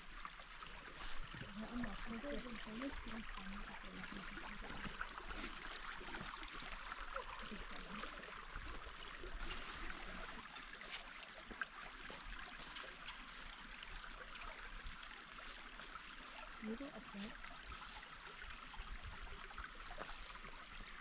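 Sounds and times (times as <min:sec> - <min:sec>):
water rushing from small waterfall: 0:00.0 - 0:21.0.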